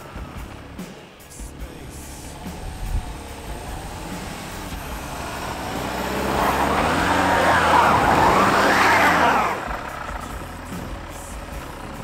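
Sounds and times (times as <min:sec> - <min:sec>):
car engine revving hard: 0:02.0 - 0:12.0.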